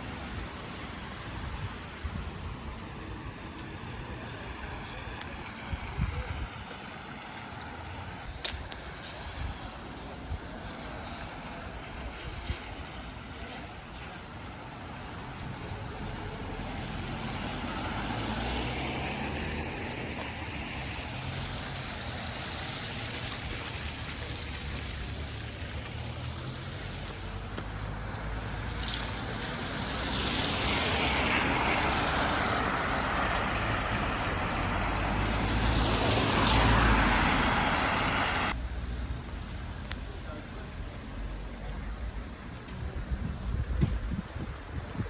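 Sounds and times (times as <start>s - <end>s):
road traffic passing: 0.0s - 45.0s.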